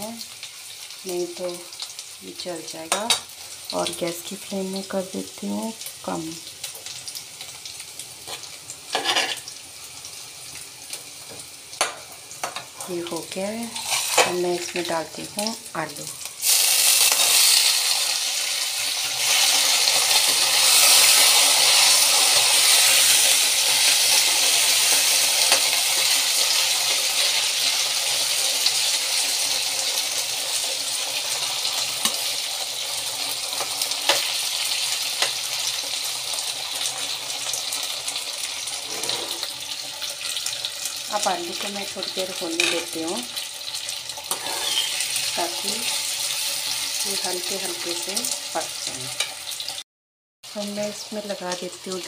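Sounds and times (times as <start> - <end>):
potatoes sizzling in hot oil: 0.0 - 49.8, 50.5 - 52.0.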